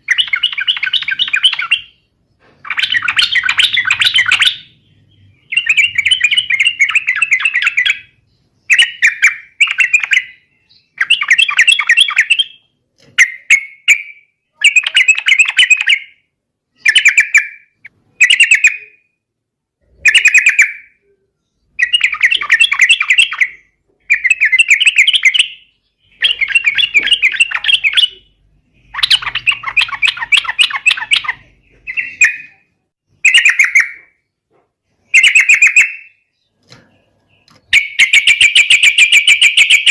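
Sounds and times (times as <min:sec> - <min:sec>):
bulbul singing: 0:00.0 - 0:19.2, 0:19.8 - 0:39.9.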